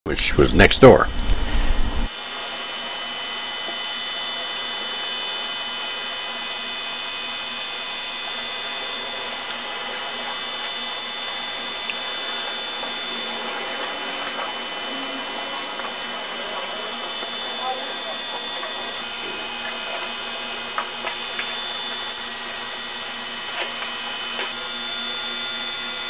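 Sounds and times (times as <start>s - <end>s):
high-pitched whine: 0.1s - 26.0s.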